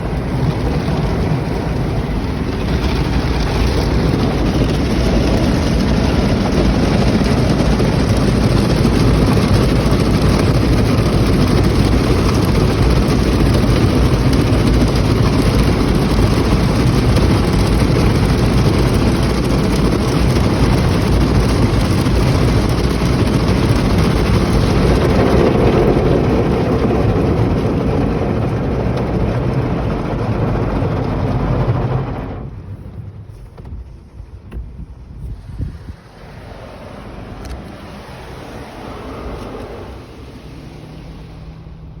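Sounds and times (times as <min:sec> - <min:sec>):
car wash machinery roaring: 0:00.0 - 0:42.0.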